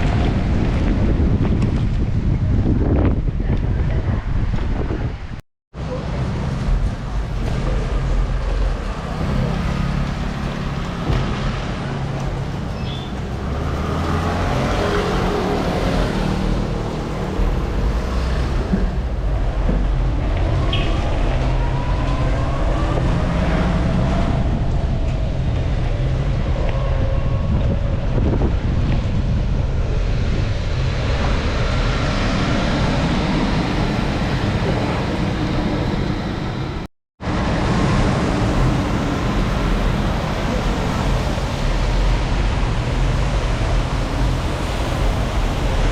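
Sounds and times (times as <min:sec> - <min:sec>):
vehicles passing by: 0:00.0 - 0:45.9
wind rushing over microphone: 0:00.0 - 0:45.9.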